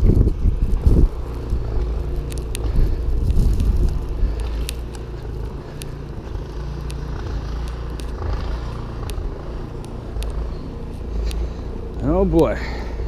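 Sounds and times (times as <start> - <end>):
street traffic: 0.0 - 13.0
wind: 0.0 - 13.0
light clicks: 1.2 - 12.0.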